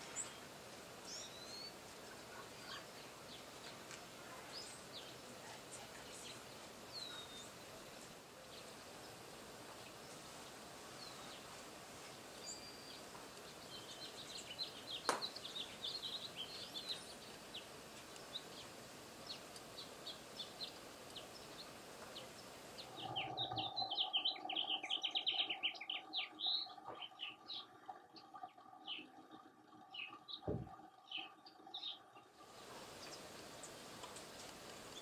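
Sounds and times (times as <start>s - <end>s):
background hiss: 0.0s - 35.0s
birds chirping: 0.0s - 35.0s.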